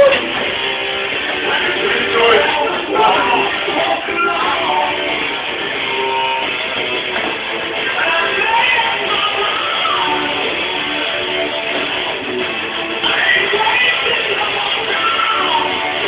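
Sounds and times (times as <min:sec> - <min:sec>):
strummed electric guitar music: 0:00.0 - 0:16.0.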